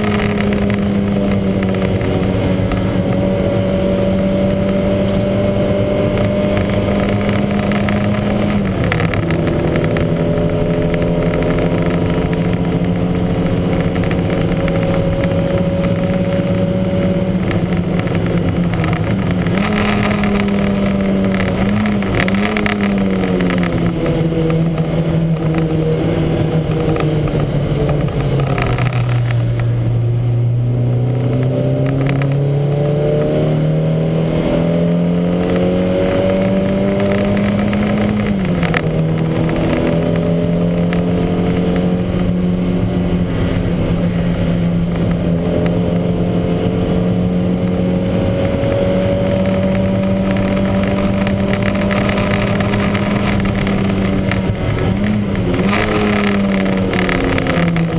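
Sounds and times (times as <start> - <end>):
race car engine running hard: 0.0 - 57.9.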